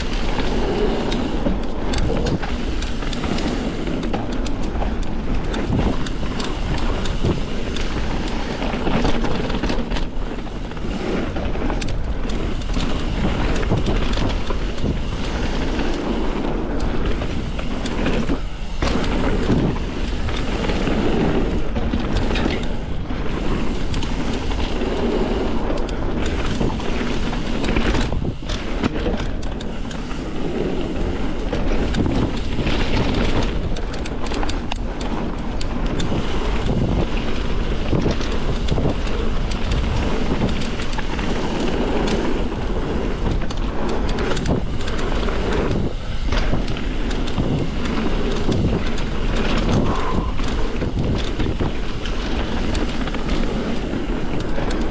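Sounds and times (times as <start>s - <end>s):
bike clattering and rattling: 0.0s - 54.9s
tyres rumbling on dirt: 0.0s - 54.9s
wind buffeting microphone: 0.0s - 54.9s.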